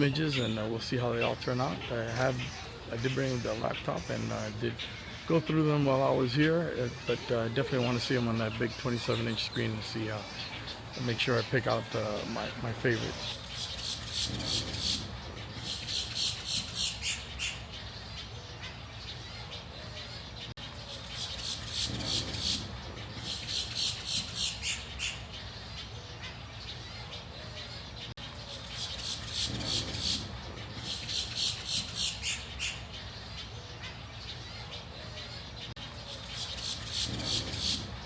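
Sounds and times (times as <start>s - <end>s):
birds squawking: 0.0s - 38.0s
rapid high-pitched bird calls: 0.0s - 38.0s.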